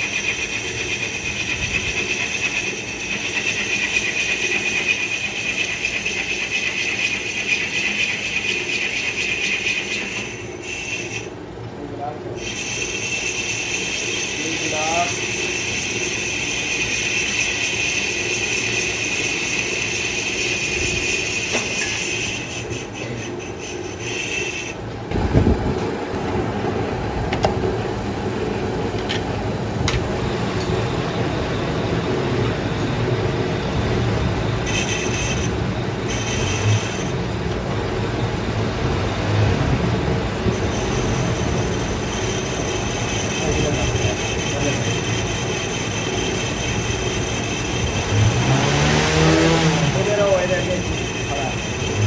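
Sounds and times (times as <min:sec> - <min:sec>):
high squeals: 0:00.0 - 0:11.4, 0:12.4 - 0:25.0, 0:29.5 - 0:52.0
machine humming: 0:00.0 - 0:52.0
metal lathe whirring: 0:00.0 - 0:52.0.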